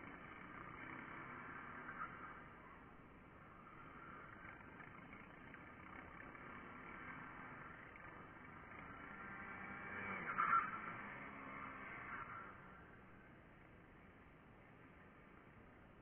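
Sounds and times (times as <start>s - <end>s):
distant race engines: 0.0s - 16.0s.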